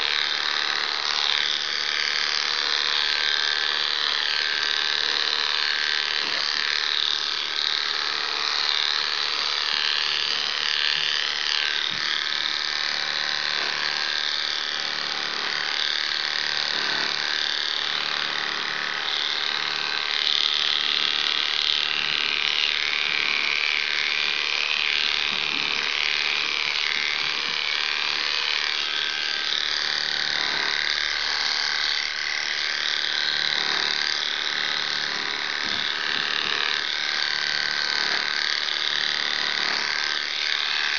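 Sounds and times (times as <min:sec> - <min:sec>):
electric clippers buzzing: 0:00.0 - 0:40.9.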